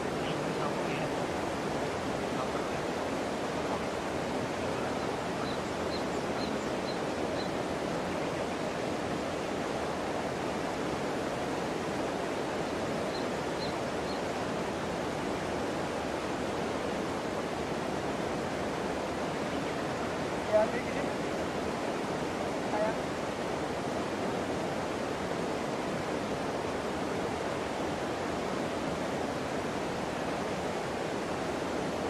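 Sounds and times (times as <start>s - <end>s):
river rushing over stones: 0.0s - 32.0s.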